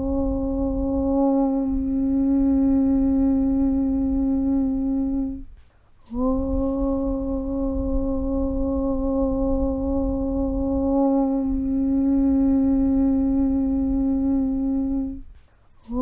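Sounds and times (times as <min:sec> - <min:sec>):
low chanted hum: 0:00.0 - 0:16.0.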